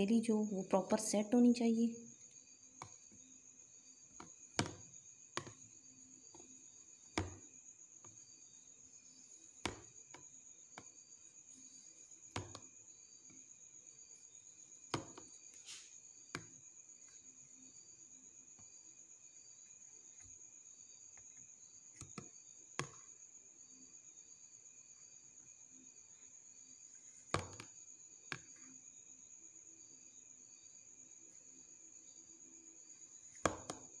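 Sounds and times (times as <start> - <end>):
cricket trill: 0.0 - 34.0.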